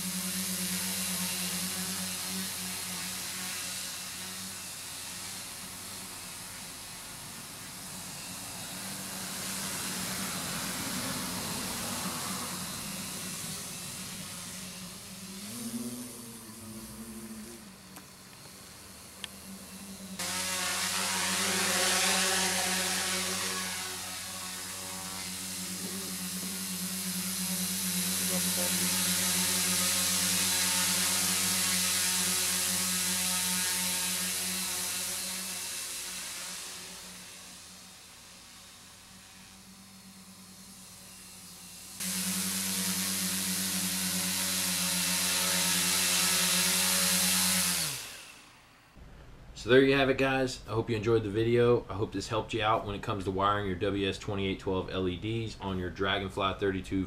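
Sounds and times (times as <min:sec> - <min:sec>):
drone propellers whirring: 0:00.0 - 0:49.0
steady hiss: 0:00.0 - 0:57.0.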